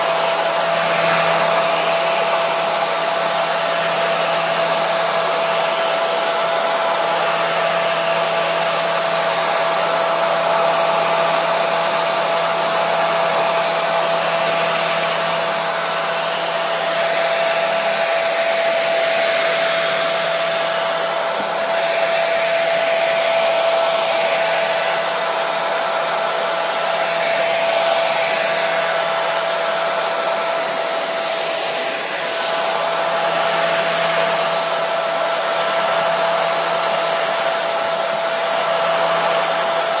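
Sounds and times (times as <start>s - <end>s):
hair dryer running: 0.0s - 40.0s.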